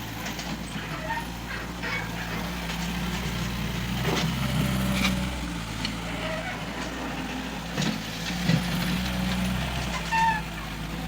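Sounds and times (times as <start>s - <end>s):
backhoe loader engine running: 0.0s - 11.0s.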